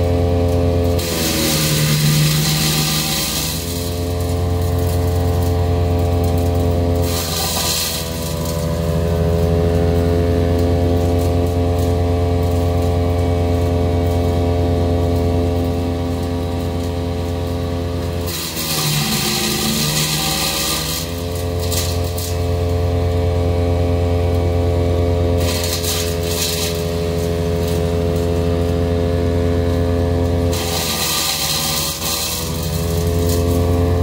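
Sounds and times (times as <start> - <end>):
chipper shredding wood: 0.0 - 34.0
wood chipper engine running: 0.0 - 34.0.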